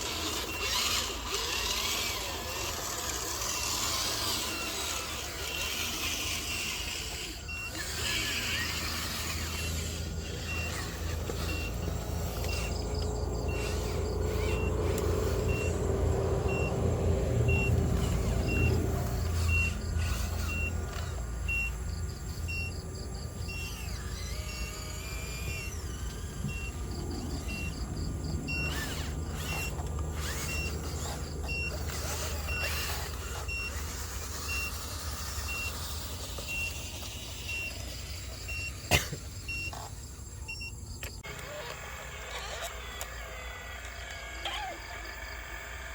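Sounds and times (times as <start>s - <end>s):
electric motor hum: 0.0s - 45.9s.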